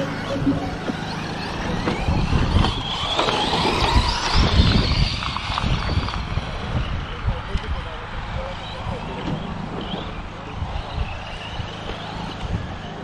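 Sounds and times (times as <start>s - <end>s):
electric motors whining: 0.0s - 13.0s
low gusty rumble: 0.0s - 13.0s.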